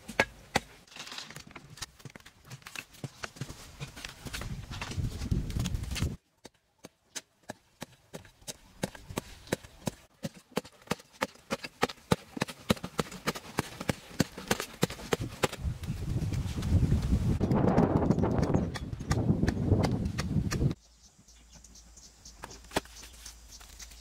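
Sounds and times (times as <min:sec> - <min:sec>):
digging tool chopping stony soil: 0:00.0 - 0:20.8, 0:22.4 - 0:24.0.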